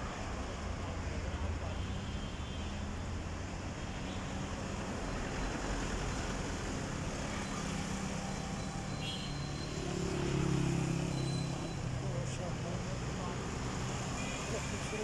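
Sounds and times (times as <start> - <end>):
city road traffic: 0.0 - 15.0.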